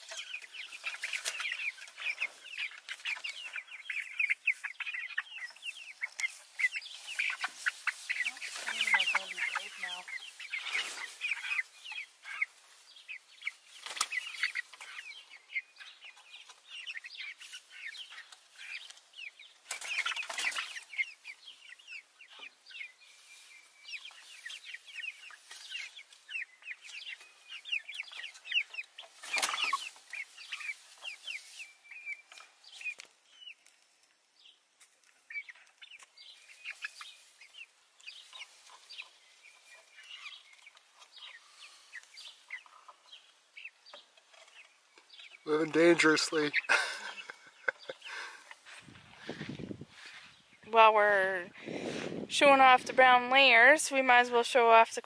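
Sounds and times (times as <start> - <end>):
hens clucking: 0.0 - 55.0.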